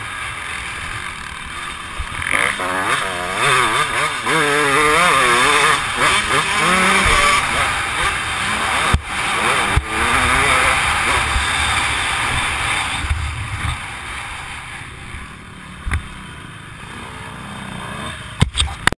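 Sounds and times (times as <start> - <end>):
dirt bike engine: 0.0 - 18.9.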